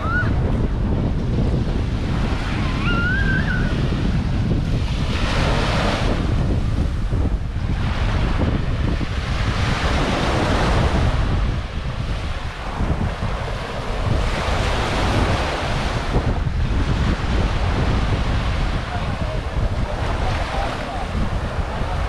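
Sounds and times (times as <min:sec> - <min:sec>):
small waves breaking on beach: 0:00.0 - 0:22.0
wind buffeting microphone: 0:00.0 - 0:22.0.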